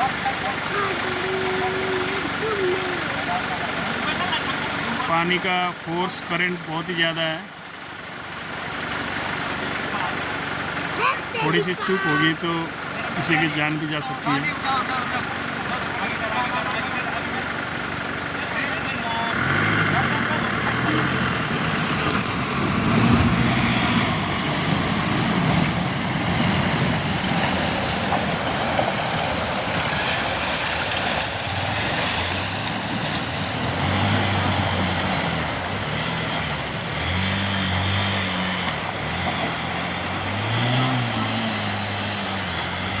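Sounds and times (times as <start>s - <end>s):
vehicle engines running: 0.0s - 43.0s.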